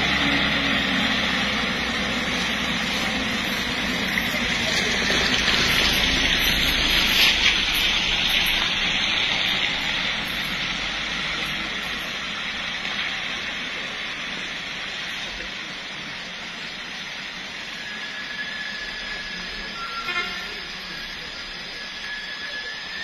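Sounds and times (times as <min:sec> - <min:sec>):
low engine rumble: 0:00.0 - 0:23.0
tyres hissing on wet road: 0:00.0 - 0:23.0.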